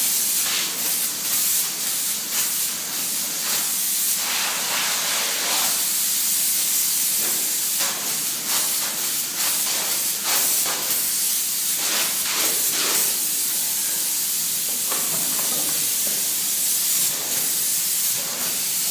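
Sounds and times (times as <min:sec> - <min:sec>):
foam gun hissing: 0:00.0 - 0:18.9.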